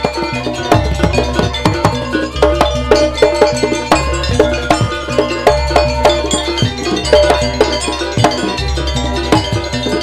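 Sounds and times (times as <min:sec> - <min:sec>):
drums: 0:00.0 - 0:10.0.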